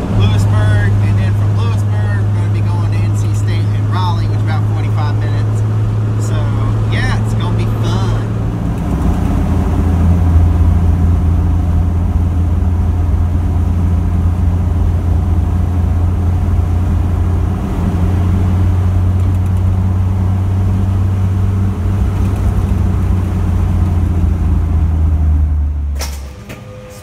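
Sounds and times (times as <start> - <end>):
road noise: 0.0 - 27.0
truck engine droning: 0.0 - 27.0.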